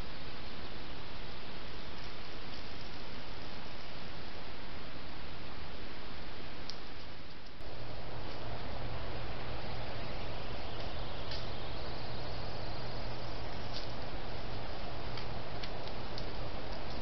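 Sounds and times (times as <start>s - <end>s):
low hum: 0.0s - 17.0s
steady hiss: 0.0s - 17.0s.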